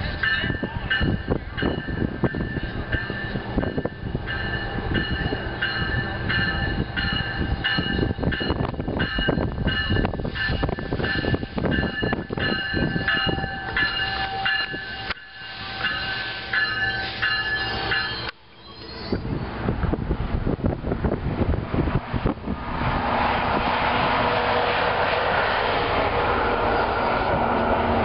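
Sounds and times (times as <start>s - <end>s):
train cars rumbling and clattering: 0.0s - 28.0s.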